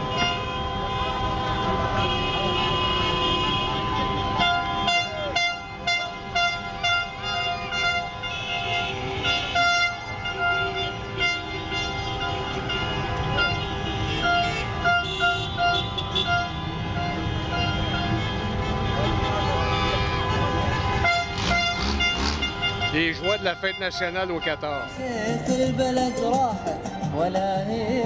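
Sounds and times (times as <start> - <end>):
car horns honking: 0.0 - 28.0
slow traffic noise: 0.0 - 28.0.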